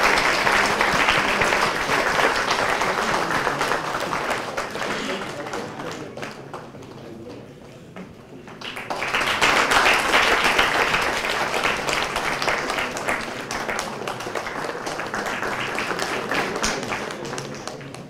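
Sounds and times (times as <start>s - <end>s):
audience applauding: 0.0s - 7.2s, 8.5s - 18.0s.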